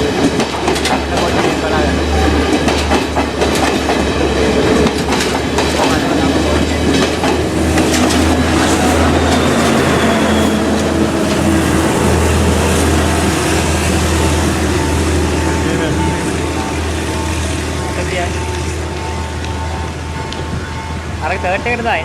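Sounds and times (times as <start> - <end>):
wheels clacking over rail joints: 0.0 - 21.2
diesel train rumbling: 0.0 - 22.0
humming train engine: 0.0 - 22.0.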